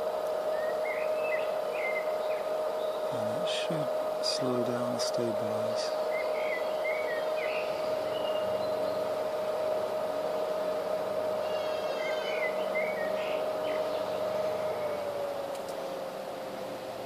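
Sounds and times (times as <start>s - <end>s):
battery charger whine: 0.0s - 17.0s
birds chirping: 0.0s - 17.0s.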